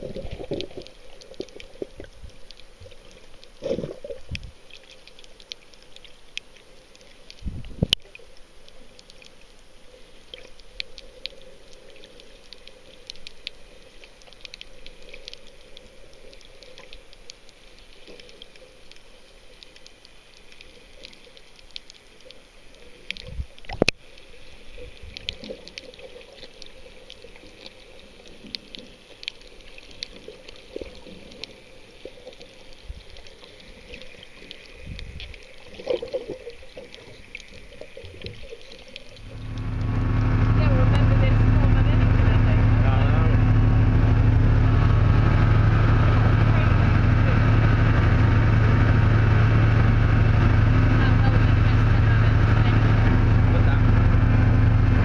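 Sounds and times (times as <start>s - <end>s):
faint clicks and crackles: 0.0s - 55.0s
underwater water sloshing: 0.0s - 55.0s.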